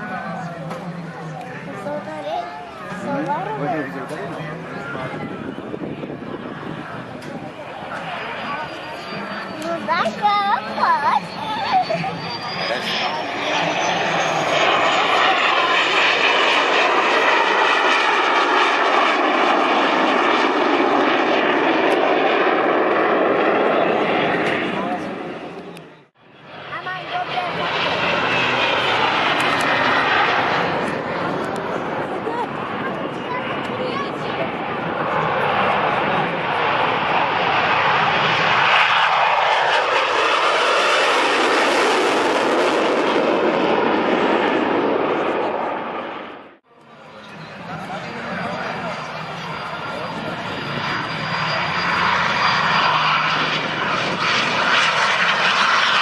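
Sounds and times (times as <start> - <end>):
jet aircraft flying past: 0.0 - 56.0.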